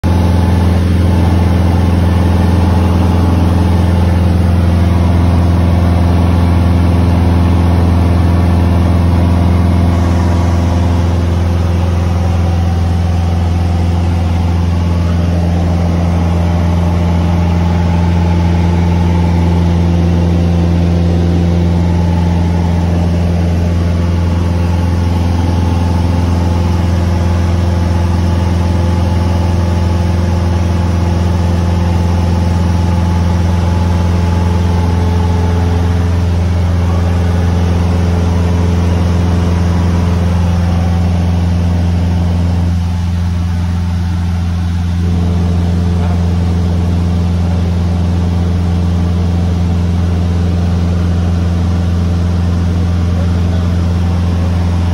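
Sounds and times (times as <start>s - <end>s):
small plane engine droning: 0.0s - 54.9s.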